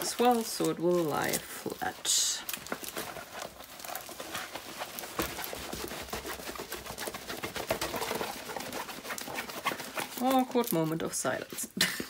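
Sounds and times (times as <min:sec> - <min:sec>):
plastic film rustling with clicks: 0:00.0 - 0:12.0.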